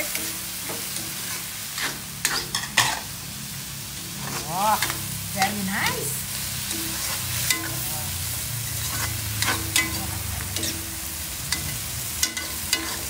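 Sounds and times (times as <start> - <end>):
mushrooms sizzling in a pan: 0.0 - 13.0.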